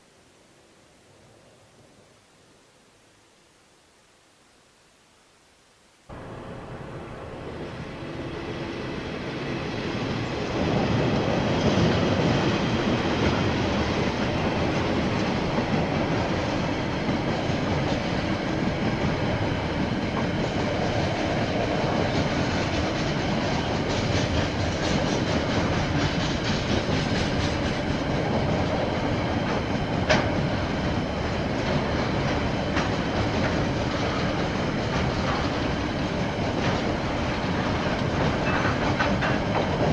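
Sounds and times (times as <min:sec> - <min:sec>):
train rumbling past: 0:06.1 - 0:39.9
wagon wheels clacking on rails: 0:06.1 - 0:39.9.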